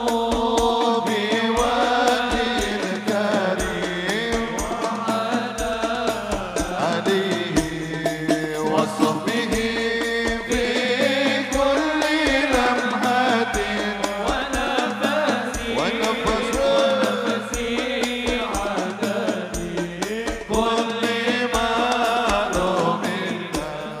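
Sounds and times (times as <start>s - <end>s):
frame drums with jingles: 0.0s - 24.0s
group of voices singing: 0.0s - 24.0s
hand drums beating: 0.0s - 24.0s.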